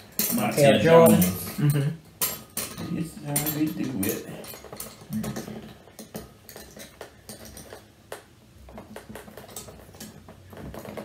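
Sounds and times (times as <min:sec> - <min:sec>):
dishes and utensils clinking: 0:00.0 - 0:11.0.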